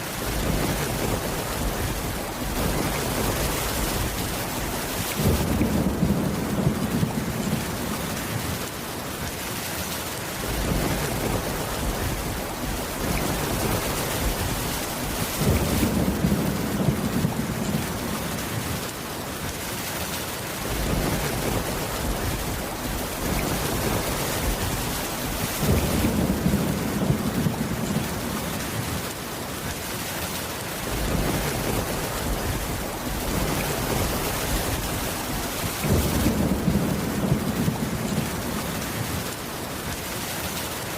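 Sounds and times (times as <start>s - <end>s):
thunder rumbling: 0.0s - 8.7s, 10.4s - 18.9s, 20.6s - 29.2s, 30.8s - 39.5s
steady rain: 0.0s - 40.9s.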